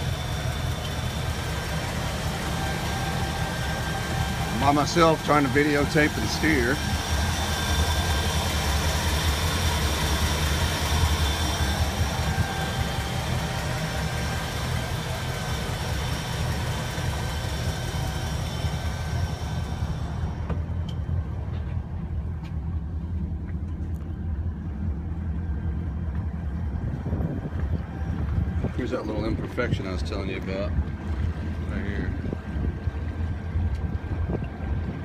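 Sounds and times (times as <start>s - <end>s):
boat engine drone: 0.0s - 35.0s.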